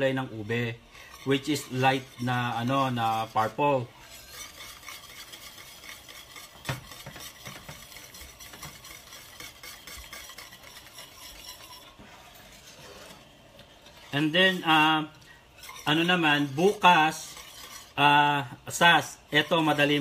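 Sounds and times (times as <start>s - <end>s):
whisk scraping metal pan: 0.0s - 20.0s.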